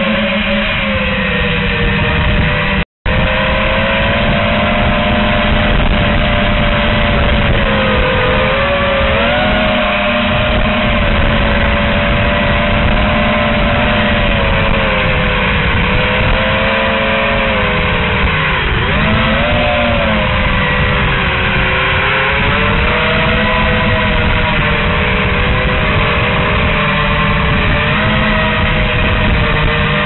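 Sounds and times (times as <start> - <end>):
drone motors buzzing whine: 0.0 - 30.0
rushing noise: 0.0 - 30.0.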